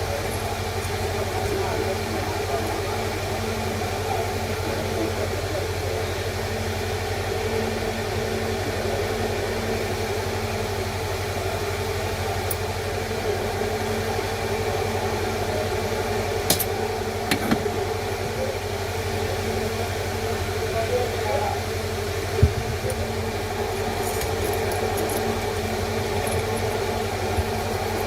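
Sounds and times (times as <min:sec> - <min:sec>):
machine hum with fixed tones: 0:00.0 - 0:28.0.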